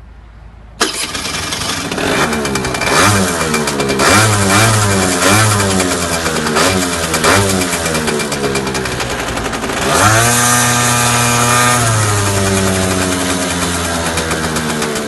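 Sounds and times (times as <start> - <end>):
scooter engine revving: 0.8 - 15.0.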